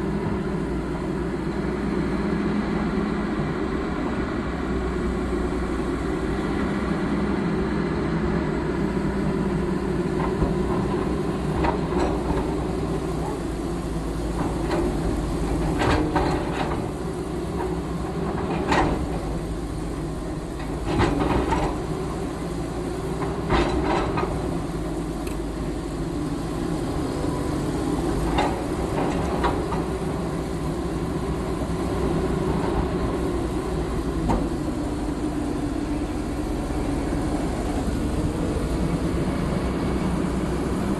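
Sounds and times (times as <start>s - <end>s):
earthmoving machine diesel engine: 0.0s - 40.9s.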